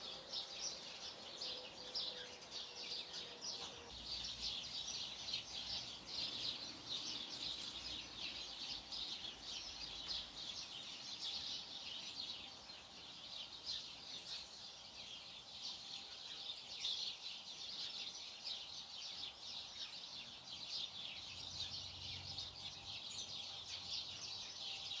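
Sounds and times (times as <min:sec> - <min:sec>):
flock of birds chirping: 0:00.0 - 0:25.0.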